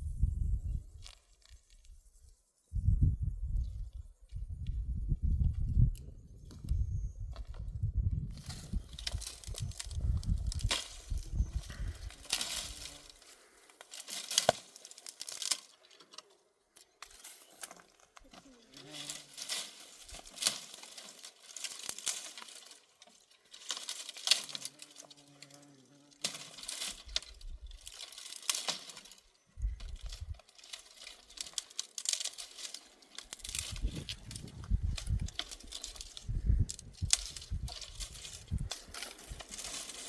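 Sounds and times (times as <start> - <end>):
dry grass crackling: 0.2 - 7.7, 8.3 - 40.0.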